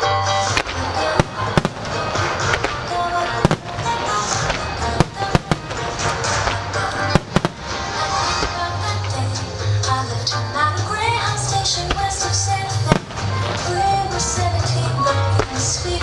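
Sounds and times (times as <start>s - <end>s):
fireworks bursting: 0.0s - 16.0s
music: 0.0s - 16.0s.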